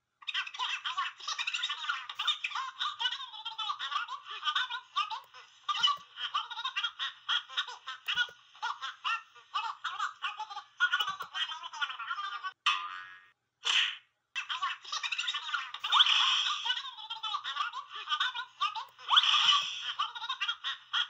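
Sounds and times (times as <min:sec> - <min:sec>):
high-pitched giggling: 0:00.3 - 0:13.3, 0:14.4 - 0:21.0.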